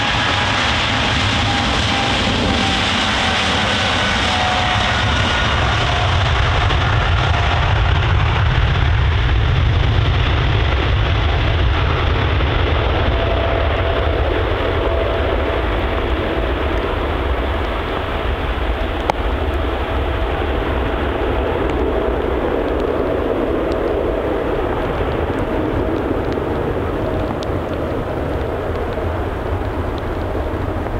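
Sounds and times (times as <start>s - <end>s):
jet engines at takeoff thrust: 0.0s - 30.9s.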